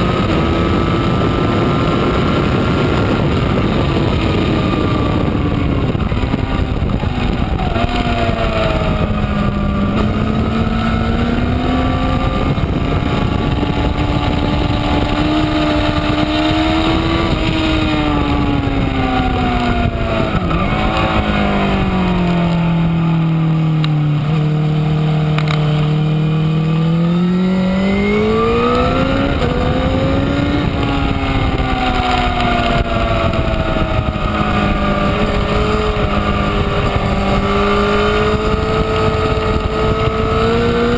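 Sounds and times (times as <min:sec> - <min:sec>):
motorcycle engine at speed: 0:00.0 - 0:40.9.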